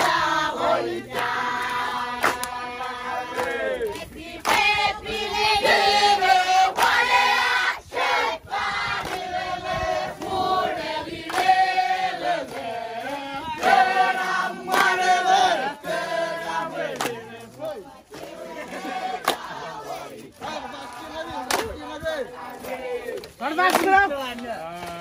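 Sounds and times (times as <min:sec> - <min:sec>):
group singing: 0:00.0 - 0:25.0.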